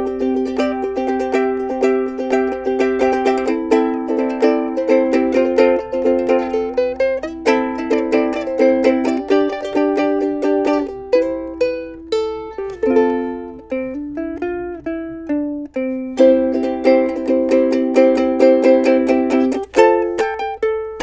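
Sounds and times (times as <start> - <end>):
ukulele strumming and picking: 0.0 - 21.0.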